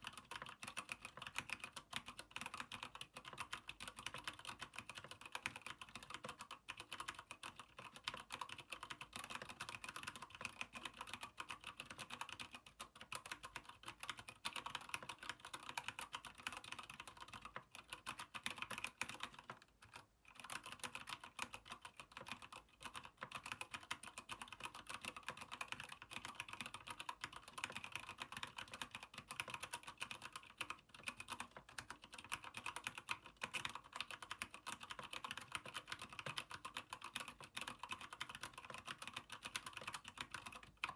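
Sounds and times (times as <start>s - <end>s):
typing on mechanical keyboard: 0.0s - 40.9s.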